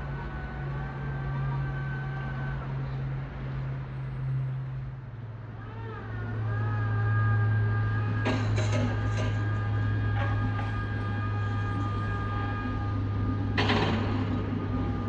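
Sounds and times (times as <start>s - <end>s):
traction motor whine: 0.0s - 4.6s, 5.6s - 15.0s
train machinery humming: 0.0s - 15.0s.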